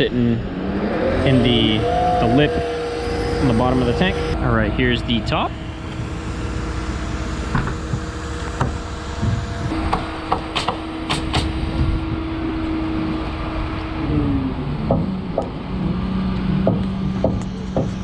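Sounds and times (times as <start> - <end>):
steady tone: 0.0 - 18.0
truck engine running: 0.0 - 18.0.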